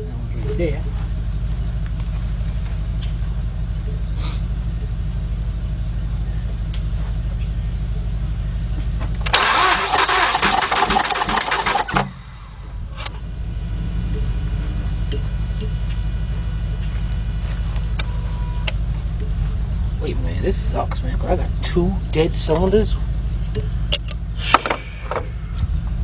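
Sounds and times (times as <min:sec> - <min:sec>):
engine cranked by starter: 0:00.0 - 0:26.0
steady low hum: 0:00.0 - 0:26.0.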